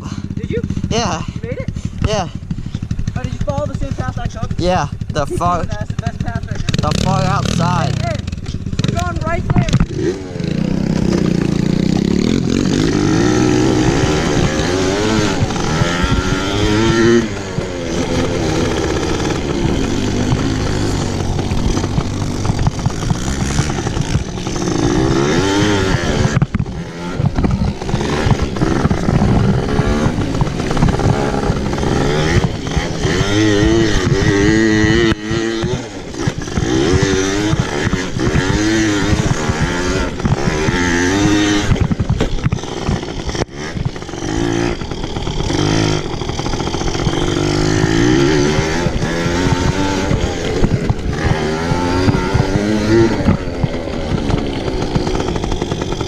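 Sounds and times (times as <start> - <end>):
pit bike engine revving: 0.0 - 56.0.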